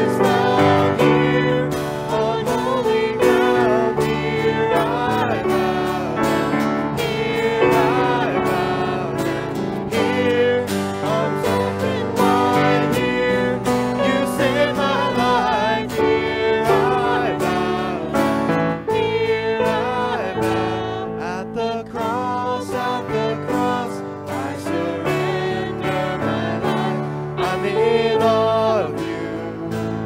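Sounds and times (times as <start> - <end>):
keyboard chords: 0.0 - 30.0
strummed guitars: 0.0 - 30.0
voices singing: 0.0 - 30.0.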